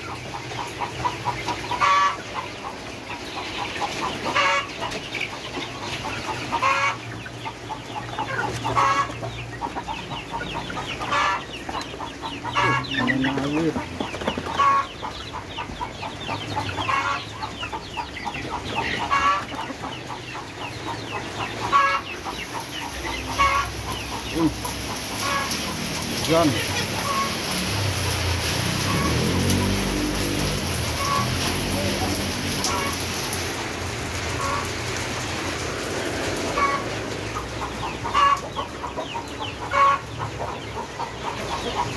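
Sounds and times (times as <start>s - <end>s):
chicken clucking: 0.0s - 41.9s
chicks peeping: 0.0s - 41.9s.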